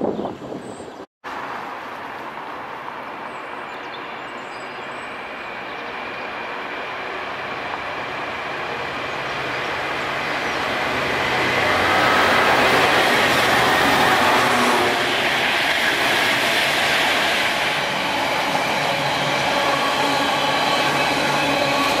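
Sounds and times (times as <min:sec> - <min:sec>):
freight train rumbling on rails: 0:02.8 - 0:22.0.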